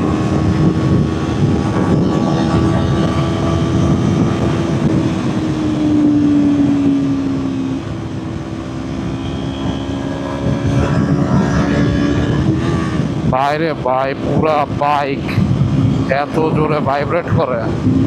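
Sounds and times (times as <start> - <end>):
motorcycle engine at high revs: 0.0 - 18.0
wind rushing: 0.0 - 18.0.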